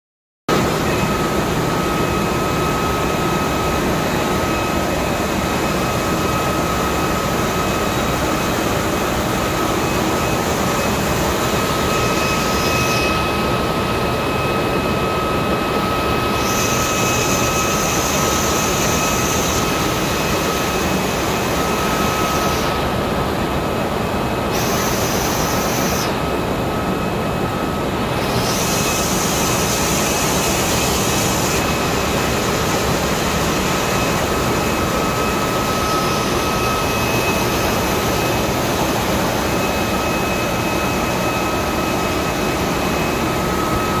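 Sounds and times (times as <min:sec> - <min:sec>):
engine room machinery drone: 0:00.5 - 0:44.0
high-pitched machine whine: 0:00.5 - 0:44.0.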